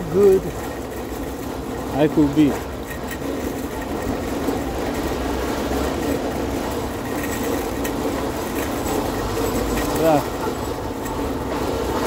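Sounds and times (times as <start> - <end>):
shopping cart rolling on asphalt: 0.0 - 12.0.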